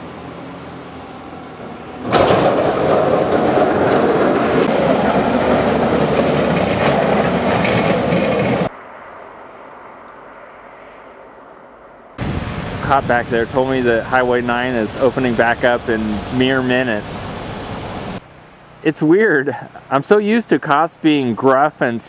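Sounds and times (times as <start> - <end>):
heavy truck engine and road noise: 0.0 - 8.9, 12.2 - 21.6.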